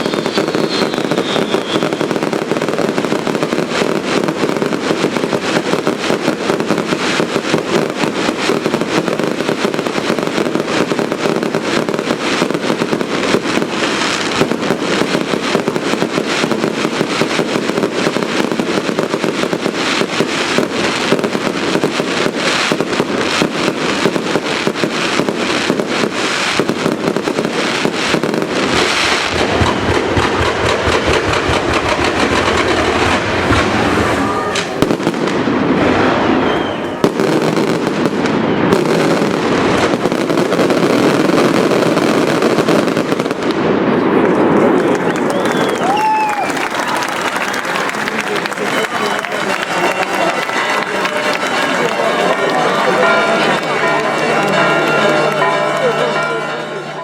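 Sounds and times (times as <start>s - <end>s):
fireworks bangs and crackles: 0.0s - 57.0s
heavier firework bangs: 0.0s - 57.0s.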